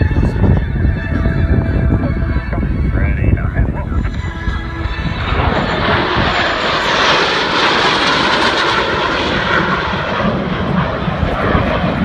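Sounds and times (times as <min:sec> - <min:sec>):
fighter jets flying by: 0:00.0 - 0:12.0.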